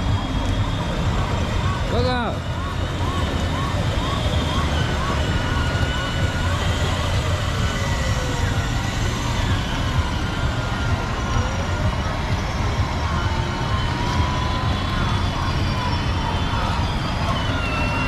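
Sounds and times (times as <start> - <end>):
electronic tones gliding: 0.0 - 18.0.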